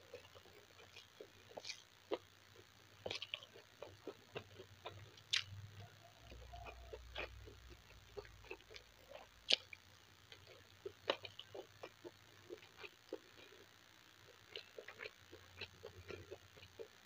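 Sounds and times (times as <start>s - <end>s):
wet chewing: 0.1s - 13.7s, 14.5s - 17.0s.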